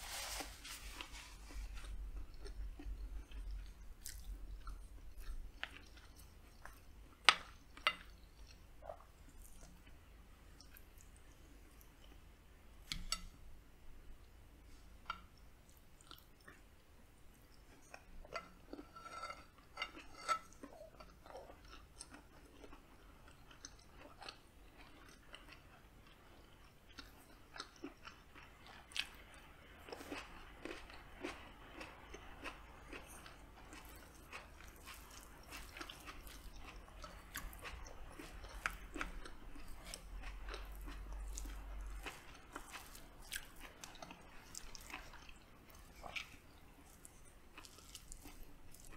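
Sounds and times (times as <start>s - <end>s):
chewing with wet mouth noises: 1.0s - 12.3s, 14.7s - 48.9s.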